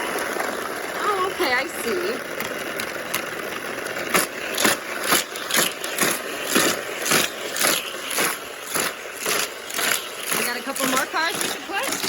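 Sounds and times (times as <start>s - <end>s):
toy cars clattering along track: 0.0s - 12.0s
toy track booster whirring: 0.0s - 12.0s.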